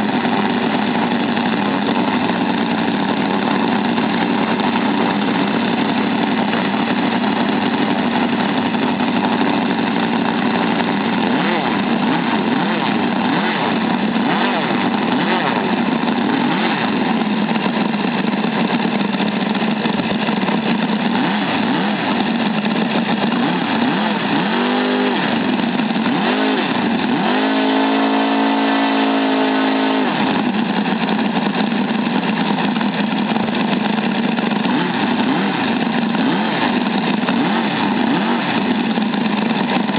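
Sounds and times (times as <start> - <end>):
radial engine running: 0.0 - 39.9.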